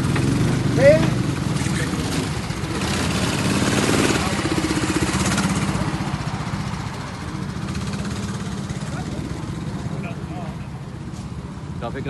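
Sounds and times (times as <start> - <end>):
go-kart engines idling: 0.0 - 12.0.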